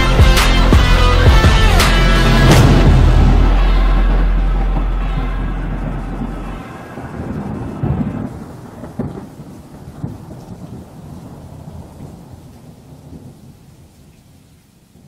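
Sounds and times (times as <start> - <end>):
thunder cracks: 0.8 - 13.6
rolling thunder: 1.3 - 14.1.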